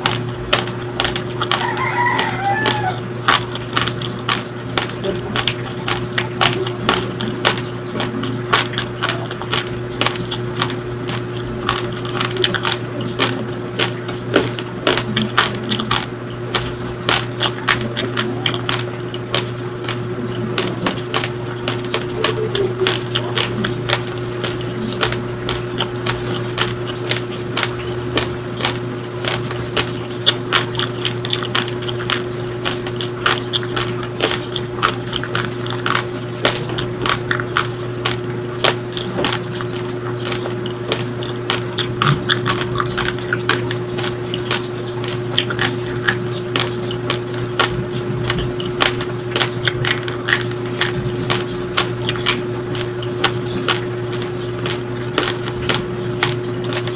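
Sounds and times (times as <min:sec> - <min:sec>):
raw rice crunching being chewed: 0:00.0 - 0:56.9.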